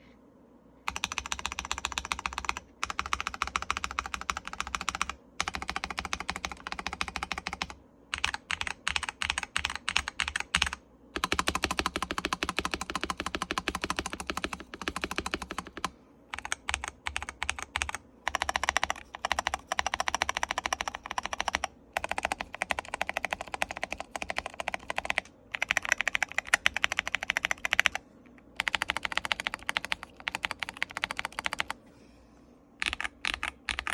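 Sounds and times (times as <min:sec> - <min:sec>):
mechanical keyboard typing: 0:00.9 - 0:31.8, 0:32.8 - 0:33.9.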